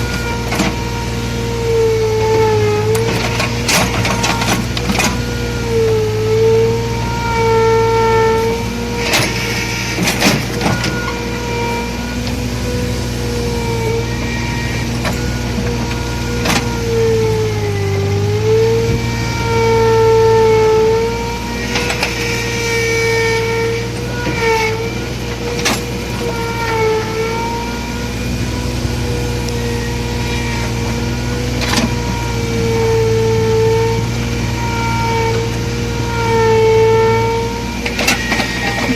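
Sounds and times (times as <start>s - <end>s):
excavator engine humming: 0.0s - 38.9s
high hydraulic whine: 0.0s - 38.9s.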